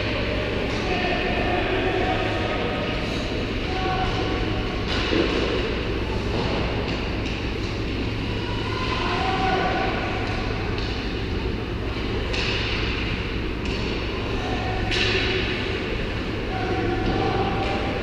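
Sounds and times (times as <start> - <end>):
arena hum and rumble: 0.0 - 18.0.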